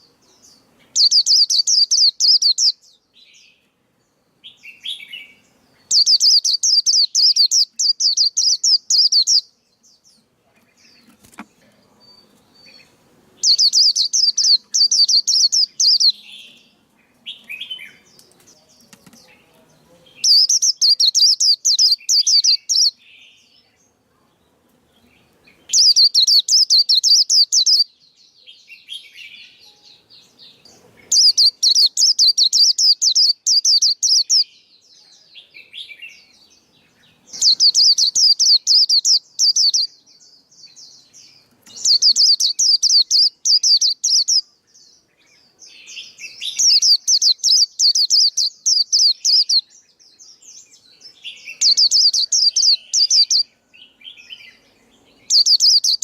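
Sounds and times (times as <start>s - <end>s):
bird twittering song: 0.0s - 56.0s
soft bird chatter: 0.0s - 56.0s.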